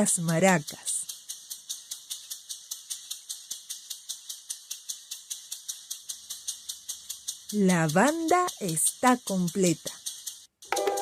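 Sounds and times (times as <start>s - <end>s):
maracas shaken: 0.0s - 11.0s.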